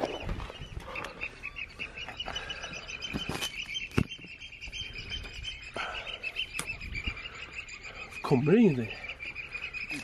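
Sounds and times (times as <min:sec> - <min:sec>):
high-pitched bird chirping: 0:00.0 - 0:10.0.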